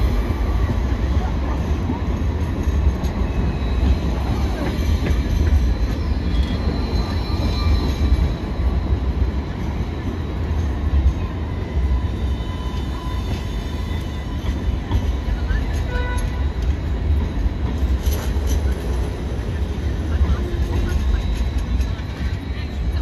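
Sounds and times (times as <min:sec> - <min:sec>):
tram rumbling past: 0:00.0 - 0:23.0
wheels squealing on rails: 0:00.0 - 0:23.0.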